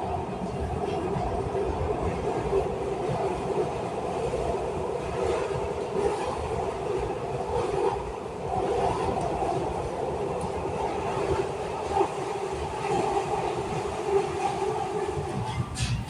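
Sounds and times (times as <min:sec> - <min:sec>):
train wheels on rail drone: 0:00.0 - 0:16.0.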